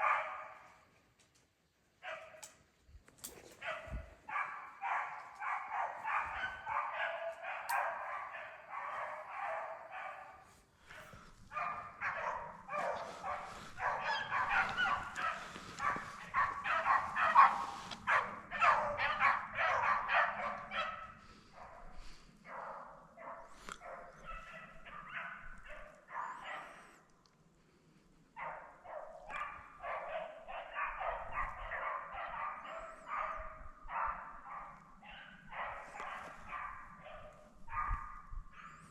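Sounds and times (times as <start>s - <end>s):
beagles baying: 3.5s - 27.0s, 28.4s - 38.9s.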